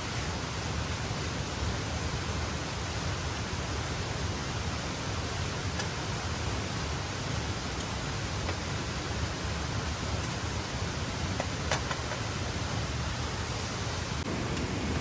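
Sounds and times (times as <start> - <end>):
heavily falling water hiss: 0.0 - 15.0.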